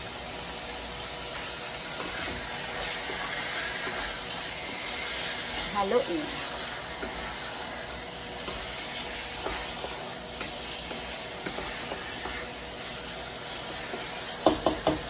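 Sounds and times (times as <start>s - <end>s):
chicken sizzling in hot oil: 0.0s - 15.0s
wooden spatula scraping a pan: 1.3s - 15.0s.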